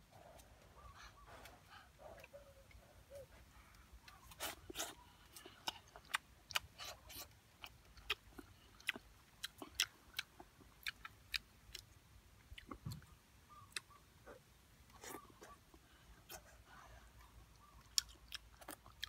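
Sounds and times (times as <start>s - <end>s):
person chewing: 0.2s - 13.1s, 14.9s - 19.0s.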